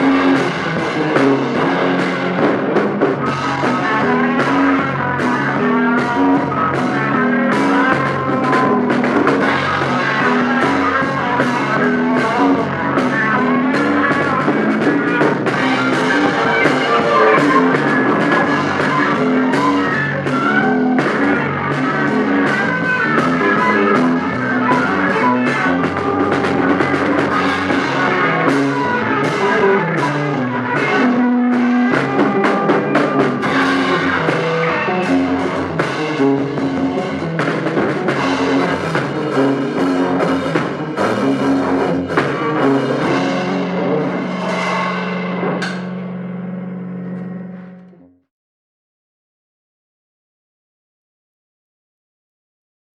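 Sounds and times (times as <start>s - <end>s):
keyboard: 0.0s - 48.0s
drum kit: 0.0s - 48.1s
electric guitar: 0.0s - 48.2s
bass guitar: 0.0s - 48.3s.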